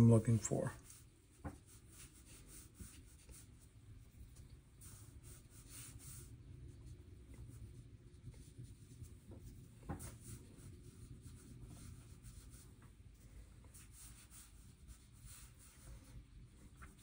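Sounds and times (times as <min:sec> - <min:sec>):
brush strokes on paper: 0:00.0 - 0:17.0.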